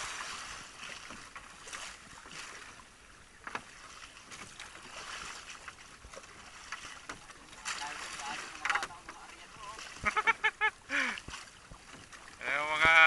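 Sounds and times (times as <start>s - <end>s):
water splashing around canoe: 0.0s - 13.0s.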